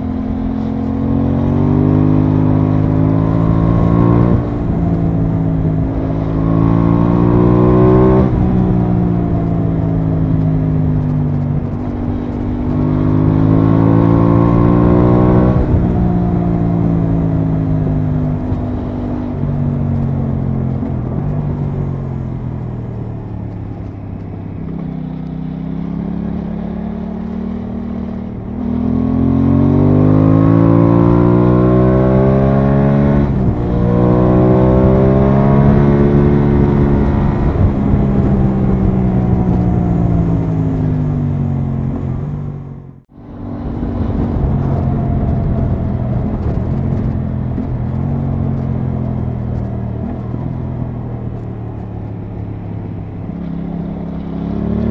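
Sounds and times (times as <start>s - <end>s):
motorcycle engine running: 0.0s - 54.9s
wind noise: 0.0s - 54.9s.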